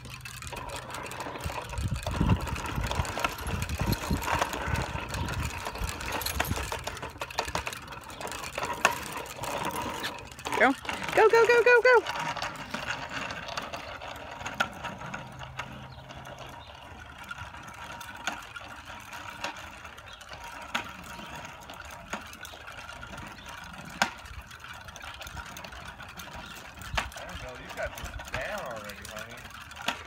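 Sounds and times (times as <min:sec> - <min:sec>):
bicycle rattling on pavement: 0:00.0 - 0:30.0.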